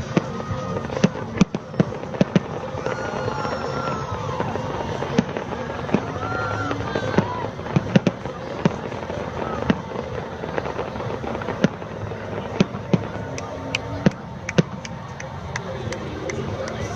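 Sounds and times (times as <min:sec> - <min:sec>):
crowd and festival noise: 0:00.0 - 0:16.9
fireworks bangs: 0:00.0 - 0:16.9.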